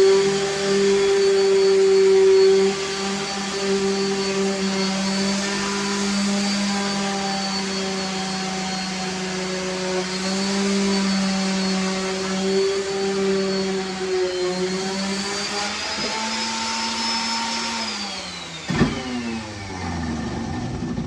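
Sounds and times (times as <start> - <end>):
small electric motor humming: 0.0 - 20.8.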